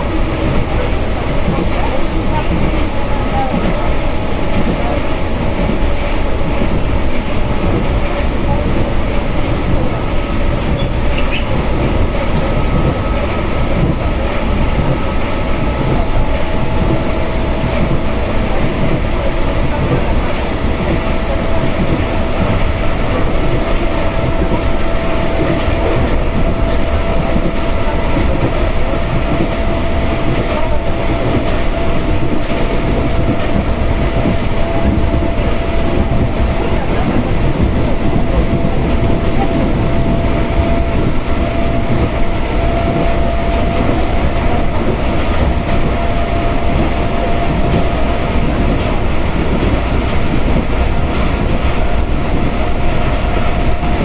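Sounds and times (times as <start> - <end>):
clickety-clack of rail joints: 0.0 - 54.0
train wheels rumbling on rails: 0.0 - 54.0.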